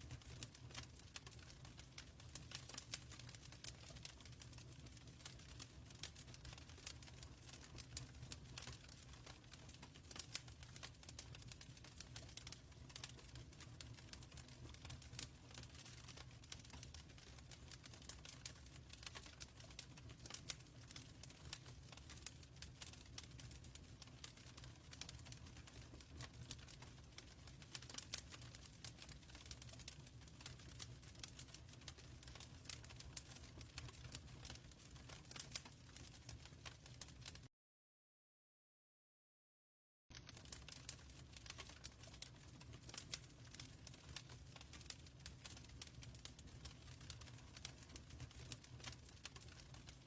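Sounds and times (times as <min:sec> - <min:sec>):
low rumble of flame: 0:00.0 - 0:37.4, 0:40.3 - 0:50.0
wood fire crackling and popping: 0:00.0 - 0:37.5, 0:40.1 - 0:50.0.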